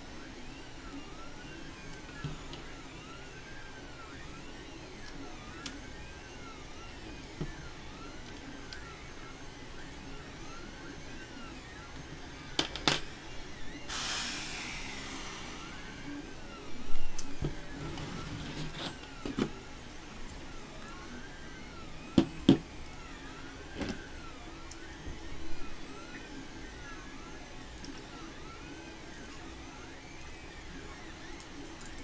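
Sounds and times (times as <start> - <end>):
stepper motors whining: 0.0 - 32.0.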